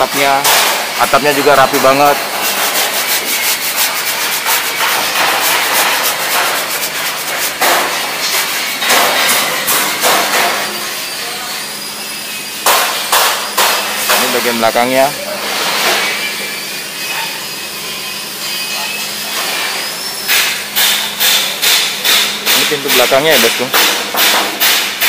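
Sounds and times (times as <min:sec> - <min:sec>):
sanding strokes on a car body: 0:01.0 - 0:25.0.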